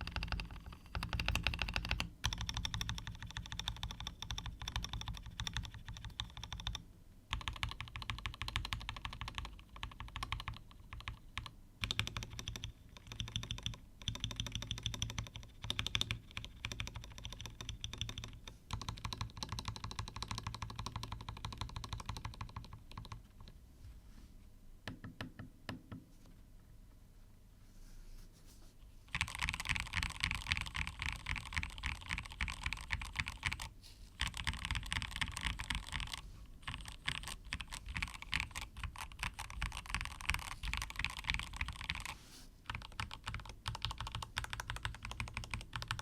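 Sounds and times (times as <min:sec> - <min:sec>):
mechanical keyboard typing: 0:00.0 - 0:23.5, 0:29.1 - 0:46.0.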